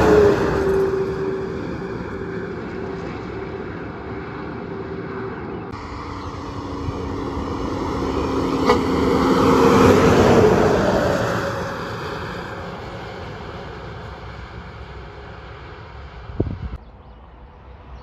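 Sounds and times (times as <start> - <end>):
truck passing: 0.0 - 18.0.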